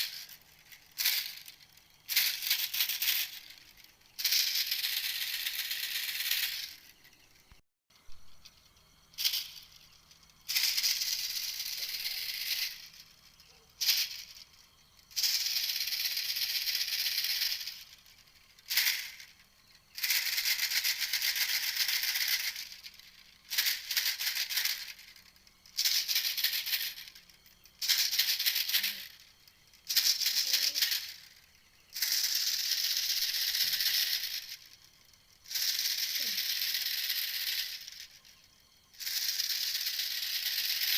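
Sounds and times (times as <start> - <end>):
high-pitched rattling bird calls: 0.0 - 40.9.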